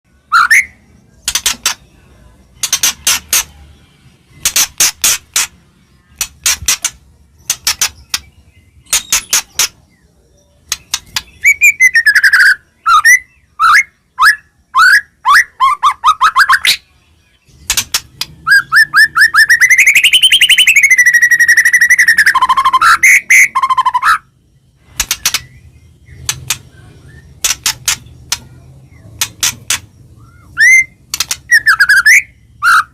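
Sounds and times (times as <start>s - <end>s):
songbird singing: 0.1s - 32.9s.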